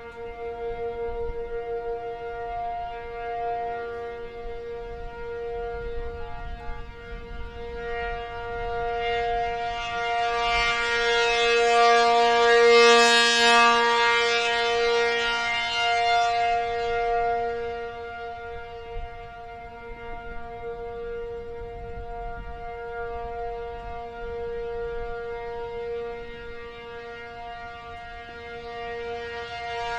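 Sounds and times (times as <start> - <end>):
rotating warning siren chord: 0.0 - 29.9.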